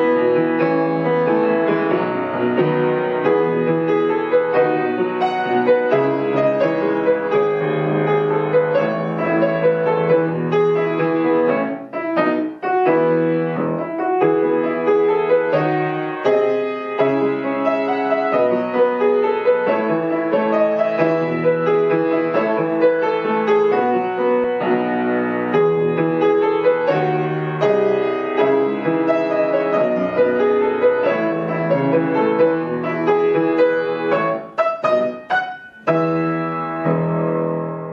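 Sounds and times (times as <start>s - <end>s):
solo piano piece: 0.0s - 37.9s.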